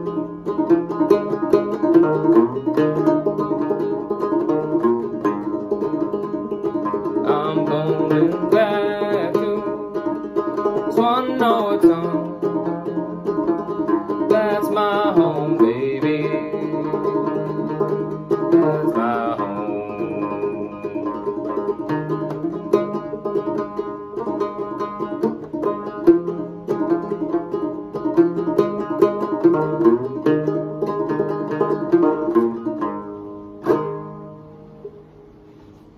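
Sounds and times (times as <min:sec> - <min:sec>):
banjo plucked notes: 0:00.0 - 0:35.9.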